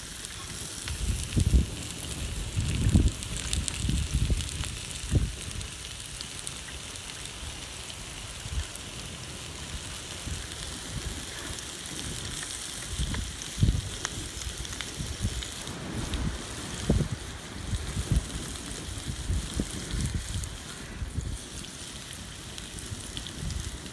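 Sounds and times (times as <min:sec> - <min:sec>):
vegetables frying in a pan: 0:00.0 - 0:23.9
wood fire crackling and popping: 0:00.0 - 0:23.9.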